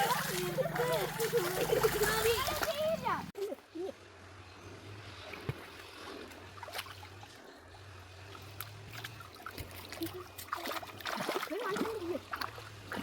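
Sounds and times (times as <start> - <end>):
small splashes: 0.0 - 3.6, 5.2 - 13.0
faint water trickling: 0.0 - 13.0.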